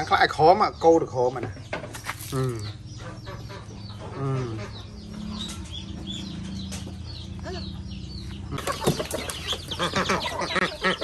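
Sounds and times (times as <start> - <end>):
ducklings and chicks peeping: 0.0 - 11.0.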